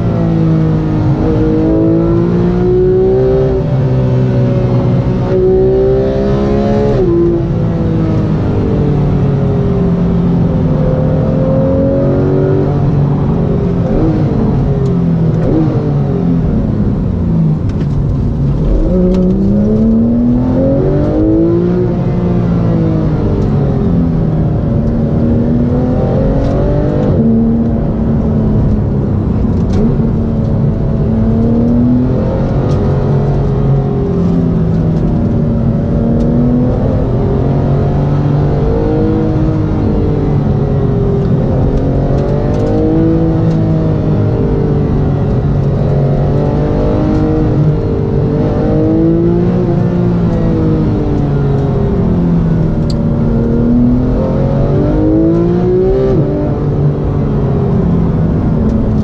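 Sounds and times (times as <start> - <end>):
car engine heard from inside cabin: 0.0 - 59.0.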